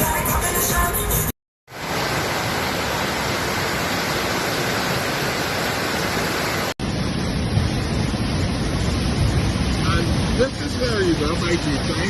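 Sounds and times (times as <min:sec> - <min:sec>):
water rushing: 0:01.7 - 0:12.0.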